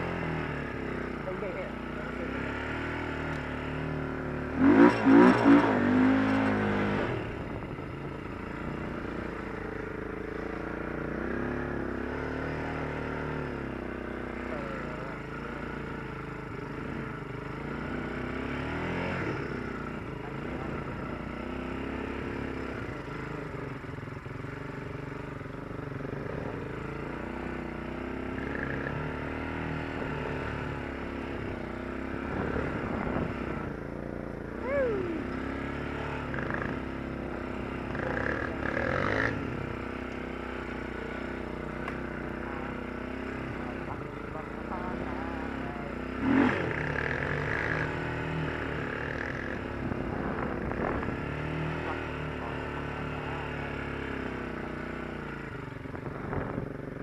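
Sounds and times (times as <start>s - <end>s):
quad engine revving: 0.0s - 25.0s, 25.6s - 57.0s.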